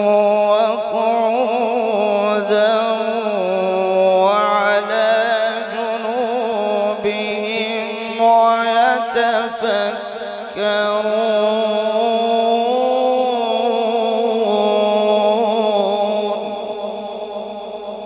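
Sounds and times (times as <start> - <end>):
man reciting melodically: 0.0 - 18.0.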